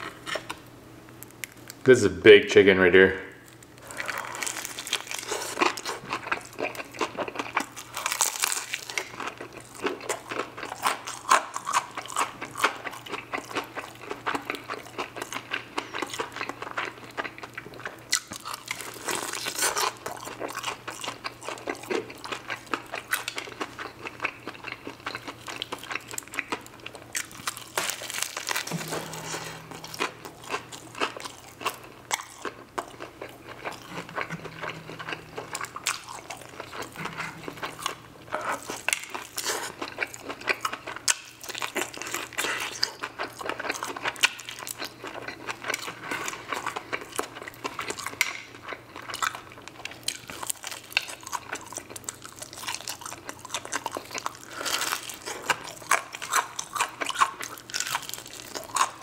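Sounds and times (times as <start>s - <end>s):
crunching fried chicken: 3.4s - 59.0s
wet chewing: 3.6s - 59.0s.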